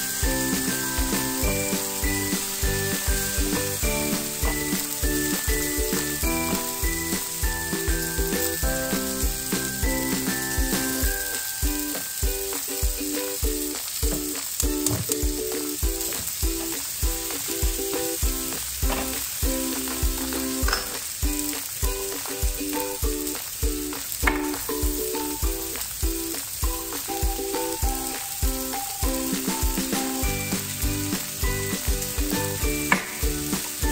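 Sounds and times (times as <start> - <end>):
background music with steady beat: 0.0 - 33.9
mushrooms sizzling in a pan: 0.0 - 33.9.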